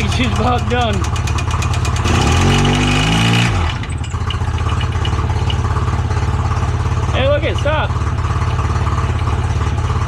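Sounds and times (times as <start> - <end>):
engine knocking and revving: 0.0 - 10.0.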